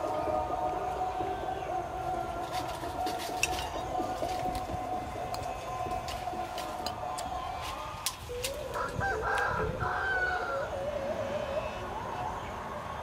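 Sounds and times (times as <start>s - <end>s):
rooster crowing: 0.0s - 12.7s.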